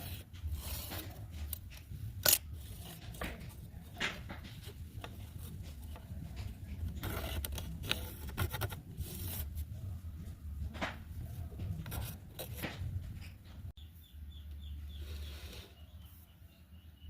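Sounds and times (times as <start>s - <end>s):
scraping and rubbing strokes: 0.0s - 10.5s, 11.1s - 13.3s, 15.0s - 16.4s.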